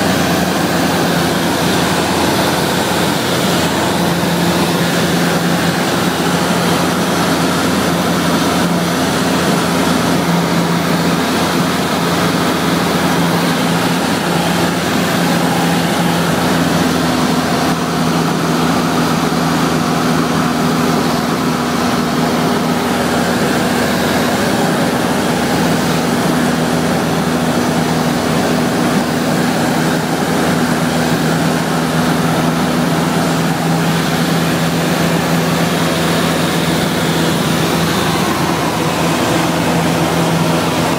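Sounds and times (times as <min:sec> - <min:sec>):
aircraft engine drone in cabin: 0:00.0 - 0:40.9.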